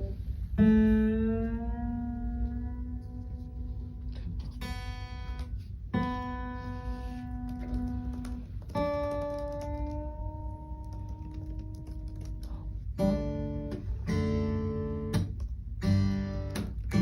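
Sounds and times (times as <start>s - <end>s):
acoustic guitar strummed slowly: 0.0s - 12.2s, 12.9s - 17.0s.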